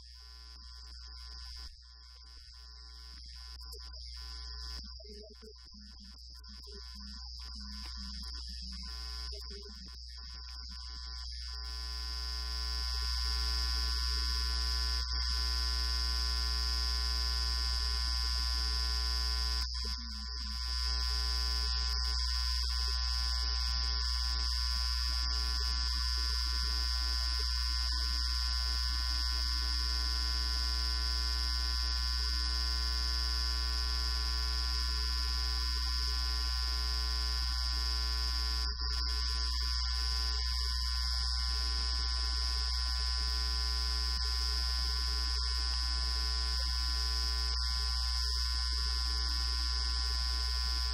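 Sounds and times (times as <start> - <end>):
electrical buzz with mains hum: 0.0 - 50.9
high steady whine: 0.0 - 50.9.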